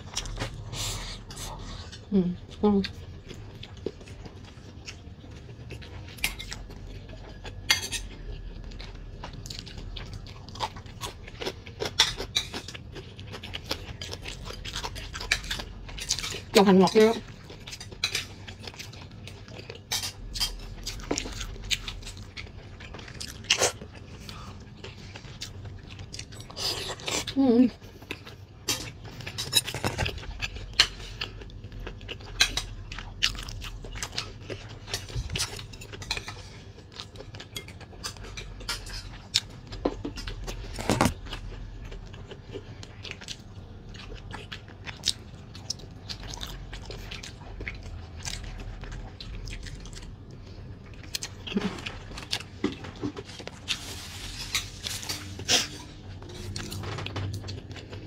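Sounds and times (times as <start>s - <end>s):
chewing and mouth sounds: 0.0s - 58.0s.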